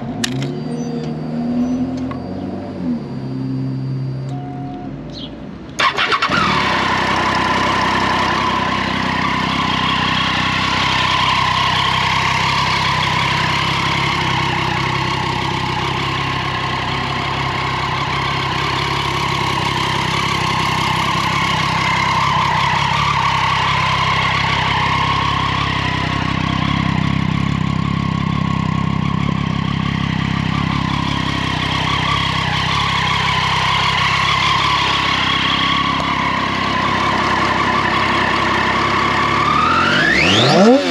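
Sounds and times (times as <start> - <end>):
motorcycle engine idling: 6.2 - 40.8.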